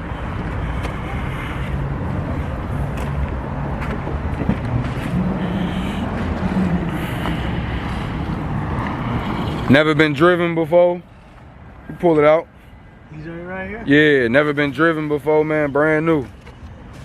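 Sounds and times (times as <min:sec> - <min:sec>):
outdoor street noise: 0:00.0 - 0:17.0.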